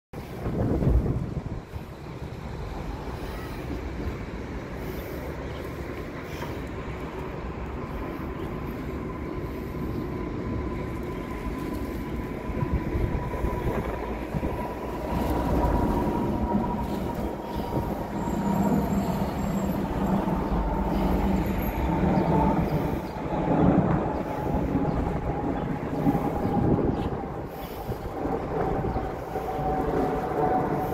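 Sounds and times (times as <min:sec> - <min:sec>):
tram equipment hum and rumble: 0:00.2 - 0:30.9.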